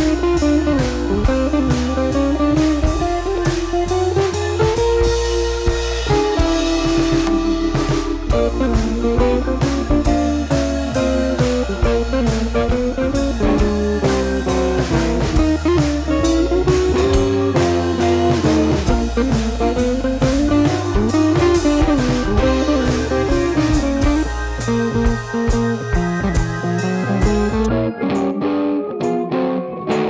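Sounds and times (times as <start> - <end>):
steady drum beat: 0.0 - 27.7
blues-rock guitar instrumental: 0.0 - 30.0.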